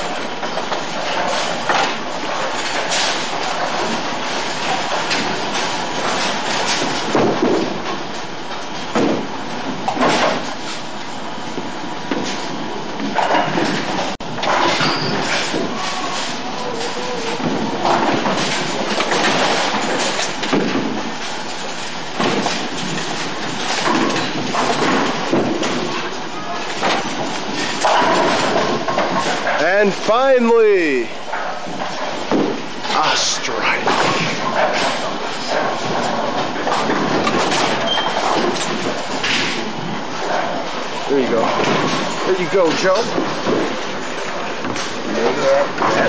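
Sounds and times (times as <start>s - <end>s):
bowling balls rolling: 0.0s - 30.1s, 31.0s - 33.0s, 33.6s - 46.0s
bowling pins clattering: 0.0s - 33.0s, 33.6s - 46.0s.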